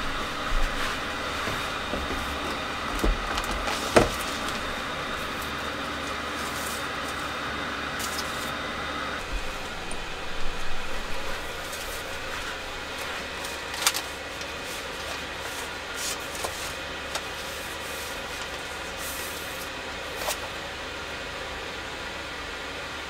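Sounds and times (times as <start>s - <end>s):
paper sleeve rustling: 0.0s - 7.4s, 8.0s - 8.6s, 9.2s - 20.6s.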